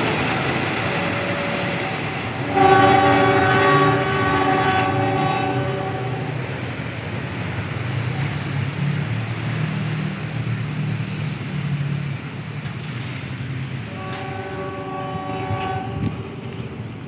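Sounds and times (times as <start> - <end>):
road traffic engine rumble: 0.0 - 17.0.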